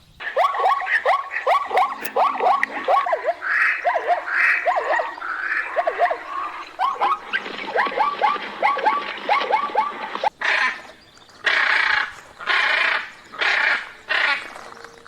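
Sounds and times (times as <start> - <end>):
animals chirping: 0.0 - 15.0
harsh animal calls: 0.2 - 14.5.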